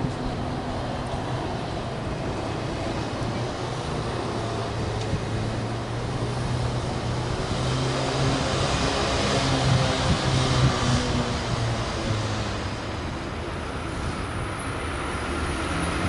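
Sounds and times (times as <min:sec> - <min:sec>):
distant vehicles rumbling: 0:00.0 - 0:16.0.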